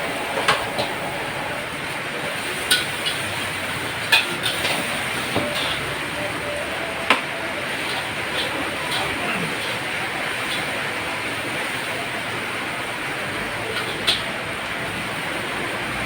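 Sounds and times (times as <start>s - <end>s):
heavy rain rushing: 0.0s - 16.0s.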